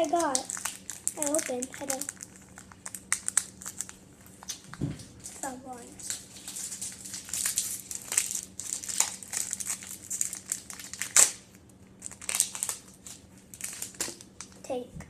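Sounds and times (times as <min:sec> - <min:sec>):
foil wrapper crinkling: 0:00.0 - 0:14.6.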